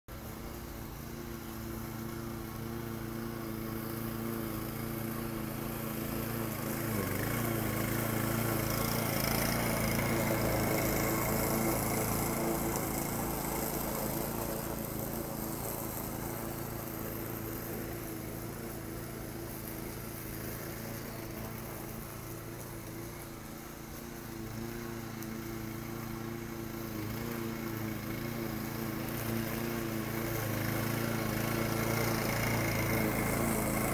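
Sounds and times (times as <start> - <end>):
lawn mower engine cutting grass: 0.1 - 33.9.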